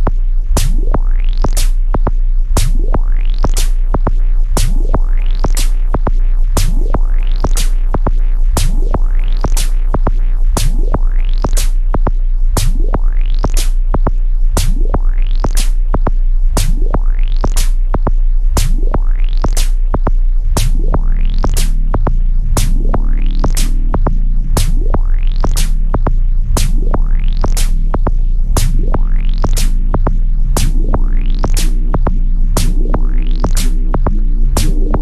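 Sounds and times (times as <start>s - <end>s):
deep bass tone: 0.0s - 35.0s
drum machine kick and snare: 0.0s - 35.0s.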